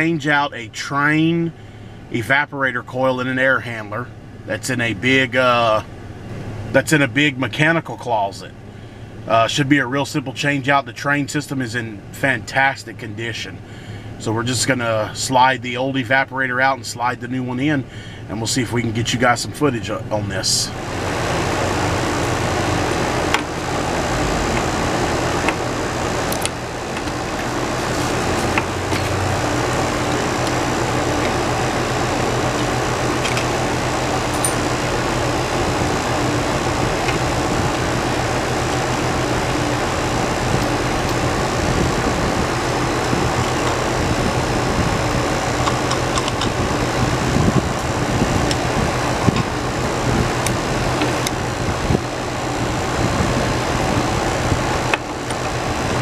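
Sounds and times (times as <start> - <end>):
compressor and fan hum: 0.0 - 56.0.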